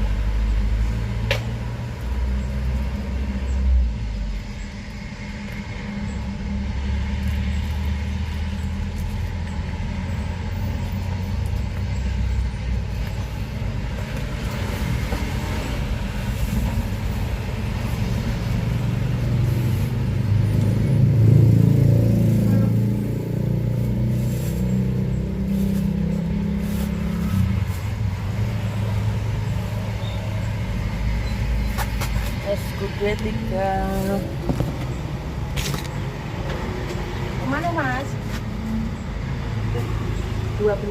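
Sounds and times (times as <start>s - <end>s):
traffic hum: 0.0s - 40.9s
vehicle passing close: 0.0s - 40.9s.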